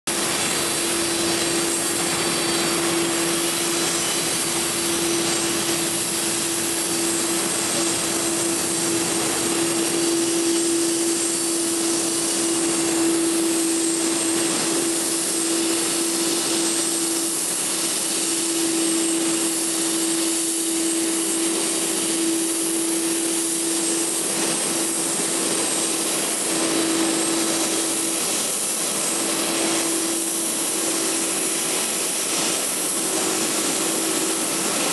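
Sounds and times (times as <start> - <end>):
jet engine whine: 0.1 - 34.9.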